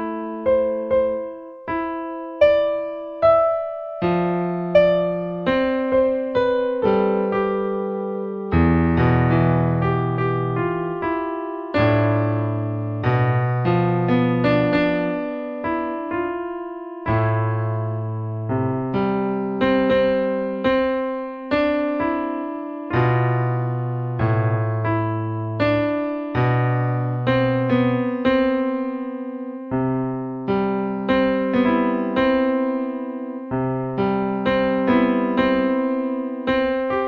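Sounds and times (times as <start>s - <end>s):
electric piano melody: 0.0s - 37.0s.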